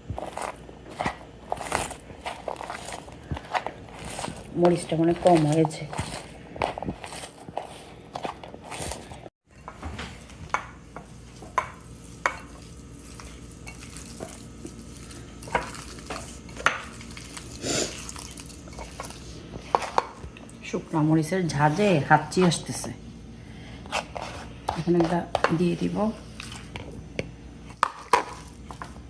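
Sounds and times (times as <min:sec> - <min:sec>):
squelchy mashing of potato: 0:00.0 - 0:09.3, 0:10.3 - 0:29.0.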